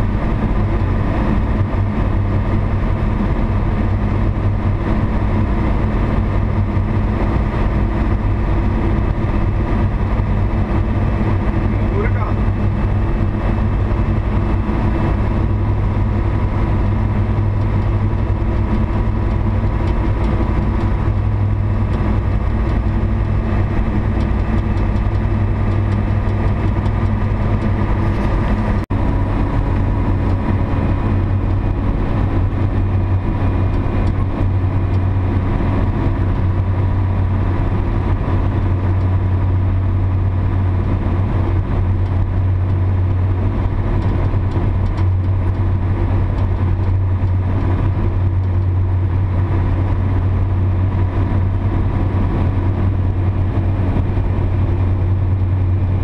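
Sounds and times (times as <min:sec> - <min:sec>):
truck diesel engine droning: 0:00.0 - 0:56.0.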